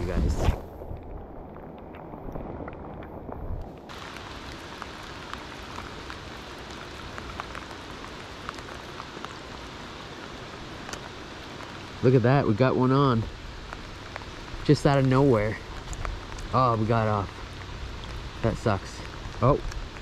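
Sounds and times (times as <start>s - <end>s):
steady rain falling: 0.0s - 20.0s
raindrops ticking close: 0.7s - 20.0s.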